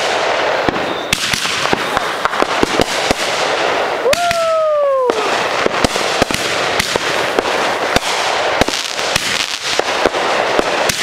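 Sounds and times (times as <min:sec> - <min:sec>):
fireworks bangs: 0:00.0 - 0:11.0
fireworks crackling hiss: 0:00.0 - 0:11.0.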